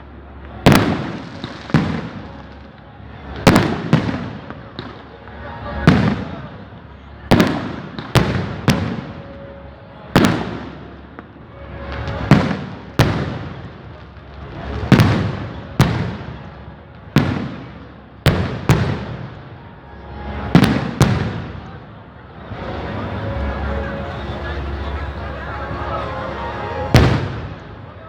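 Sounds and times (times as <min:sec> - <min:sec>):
firecrackers banging: 0:00.0 - 0:28.0.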